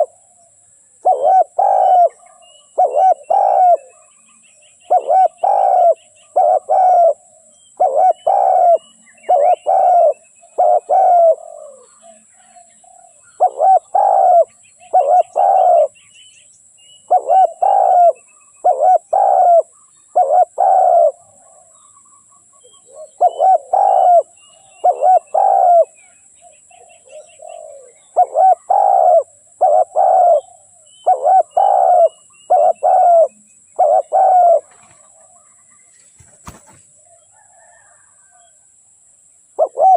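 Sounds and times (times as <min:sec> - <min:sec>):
dove cooing: 0:00.0 - 0:00.2, 0:01.0 - 0:16.0, 0:17.0 - 0:21.8, 0:22.6 - 0:38.5, 0:39.6 - 0:39.9.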